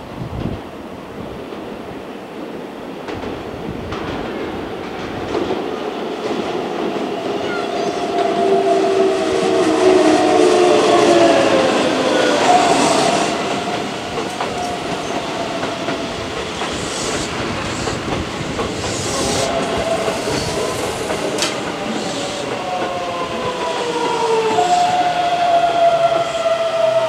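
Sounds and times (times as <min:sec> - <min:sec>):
train wheels on rails: 0:00.3 - 0:27.0.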